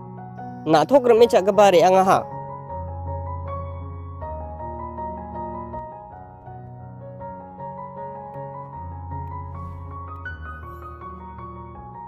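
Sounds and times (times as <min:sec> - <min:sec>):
slow soft melodic music: 0:00.0 - 0:12.0.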